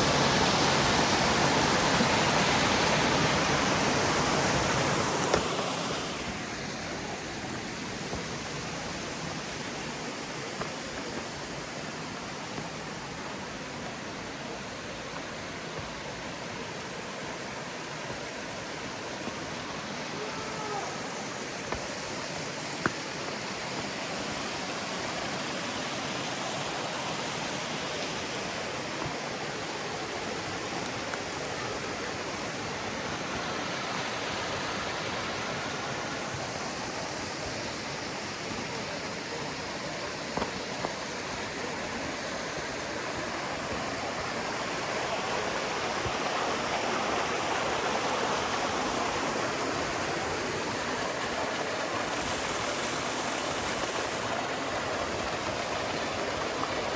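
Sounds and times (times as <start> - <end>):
water rushing: 0.0 - 56.9.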